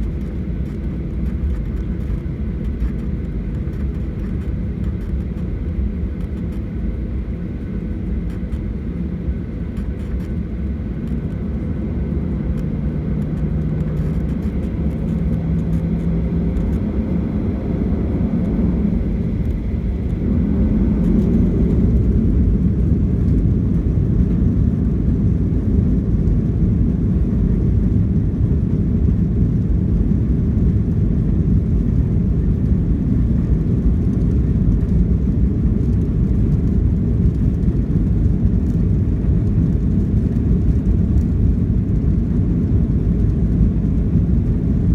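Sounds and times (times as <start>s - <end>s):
jet engine rumble from cabin: 0.0s - 44.9s.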